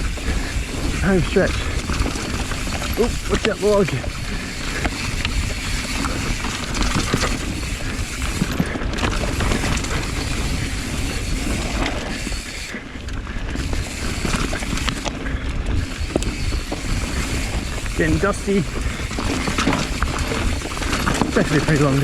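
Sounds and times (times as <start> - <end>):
bike rattling over bumps: 0.0 - 22.0
tyres crunching on loose ground: 0.0 - 22.0
wind rushing over microphone: 0.0 - 22.0.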